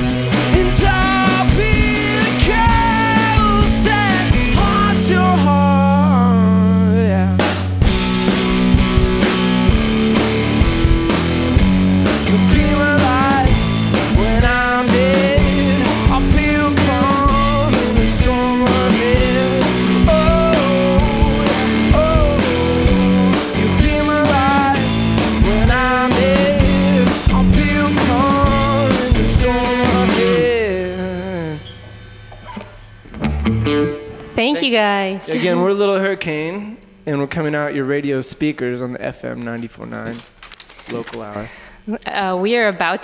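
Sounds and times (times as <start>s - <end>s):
drums: 0.0s - 34.4s
electric guitar: 0.0s - 35.4s.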